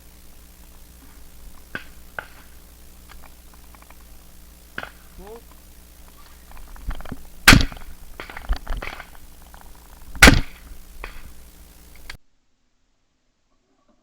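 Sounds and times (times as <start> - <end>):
faint clicks: 0.0 - 12.2
shotgun shots: 0.4 - 12.2.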